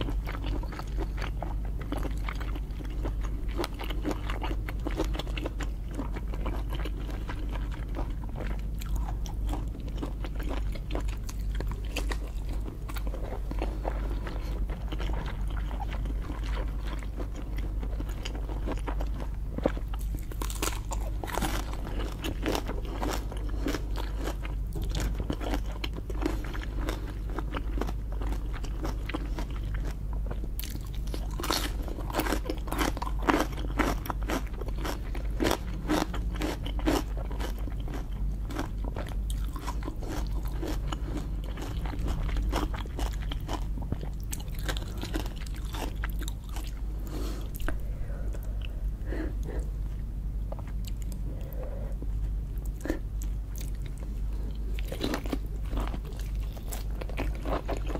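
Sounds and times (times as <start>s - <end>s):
person chewing and crunching: 0.0s - 57.9s.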